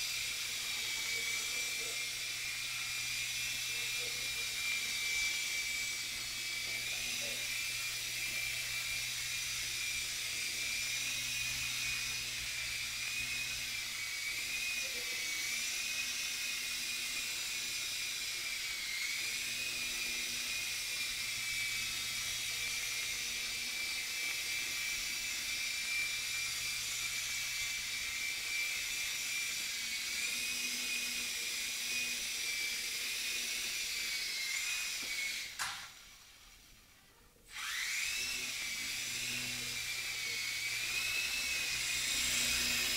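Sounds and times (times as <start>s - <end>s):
rc helicopter motor whine: 0.0s - 42.9s.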